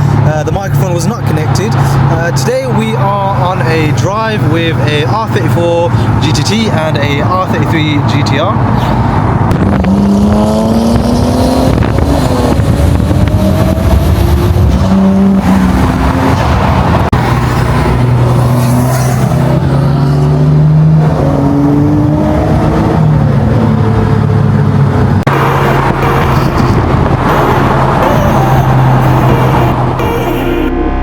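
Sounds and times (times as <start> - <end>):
car engines accelerating: 0.0 - 31.0.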